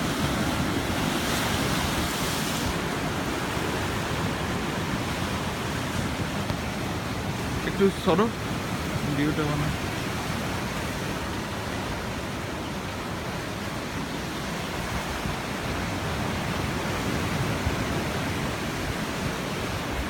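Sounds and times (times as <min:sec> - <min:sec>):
sea waves breaking over rocks: 0:00.0 - 0:20.0.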